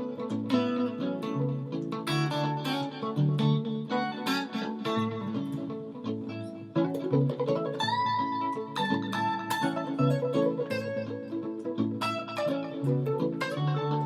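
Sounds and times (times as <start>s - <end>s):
reggae guitar playing: 0.0s - 14.0s.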